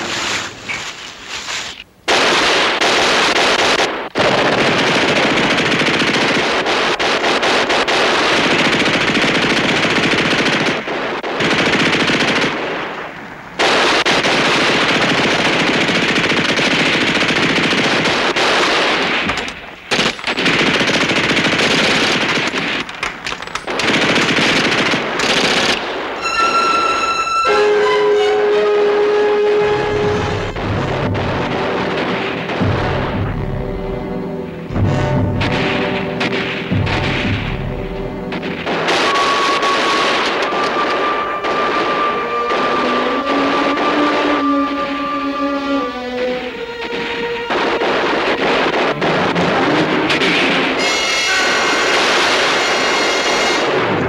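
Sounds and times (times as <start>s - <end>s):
machine-gun fire: 2.1s - 26.8s, 29.6s - 44.5s, 47.5s - 54.0s.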